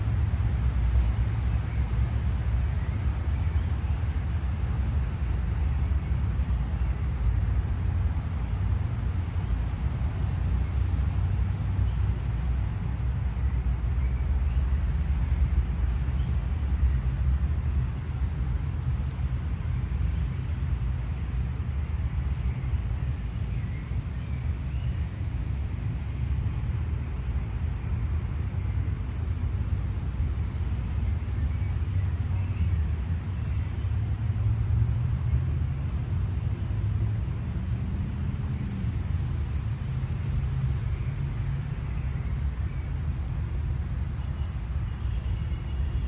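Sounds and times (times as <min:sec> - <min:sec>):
city traffic rumble: 0:00.0 - 0:46.0.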